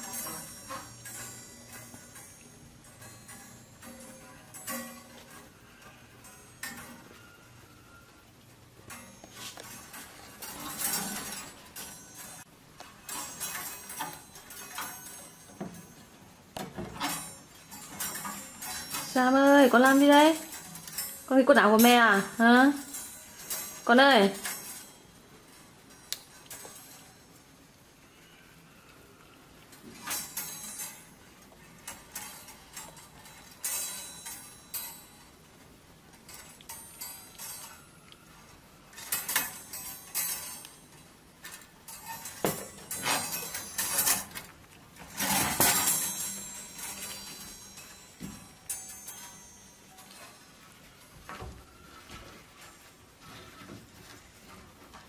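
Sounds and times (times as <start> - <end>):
wire hangers clinking and rattling: 0.0 - 27.8, 29.6 - 55.0.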